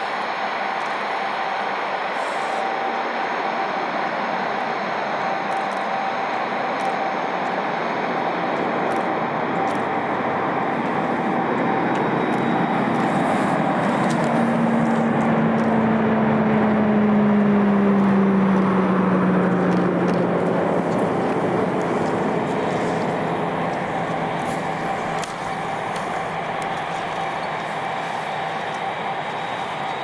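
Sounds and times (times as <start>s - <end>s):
plane passing overhead: 0.0s - 30.0s.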